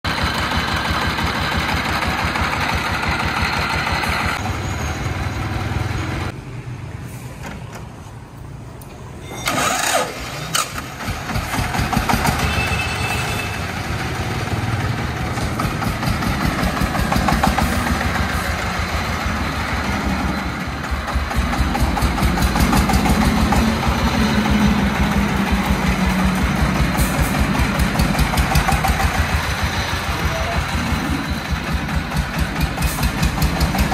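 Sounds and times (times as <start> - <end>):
diesel engine running: 0.0 - 6.3, 9.4 - 33.9.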